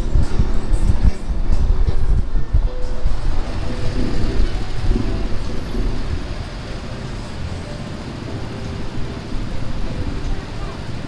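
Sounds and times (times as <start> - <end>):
road traffic noise: 0.0 - 11.0
vehicle engine rumbling: 0.0 - 11.0.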